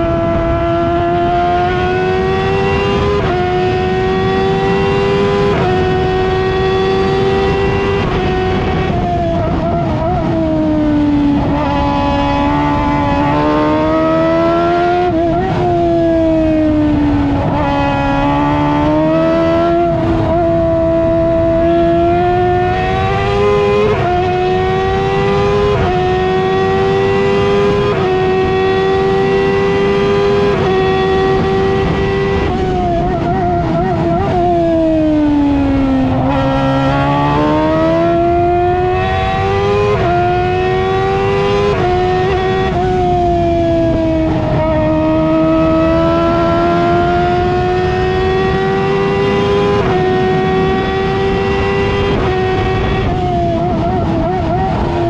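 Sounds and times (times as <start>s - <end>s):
racing car engine shifting gears: 0.0s - 55.0s.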